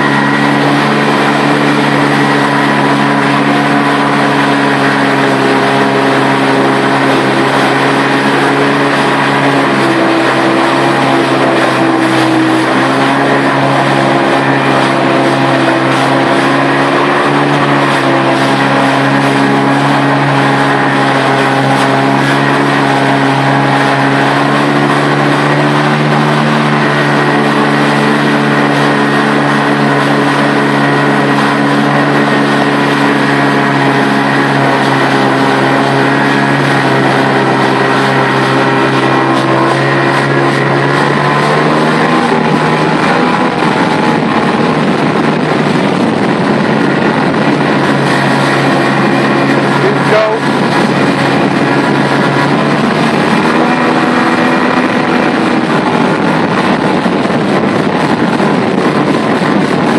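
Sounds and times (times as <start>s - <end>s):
boat engine running: 0.0s - 59.9s
rushing water: 0.0s - 59.9s
wind noise: 0.0s - 59.9s.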